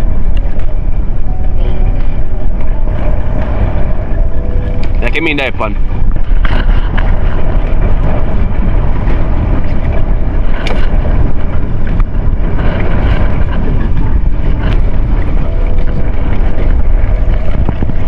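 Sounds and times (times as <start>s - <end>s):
boat engine running: 0.0s - 18.0s
wind rumbling on microphone: 0.0s - 18.0s.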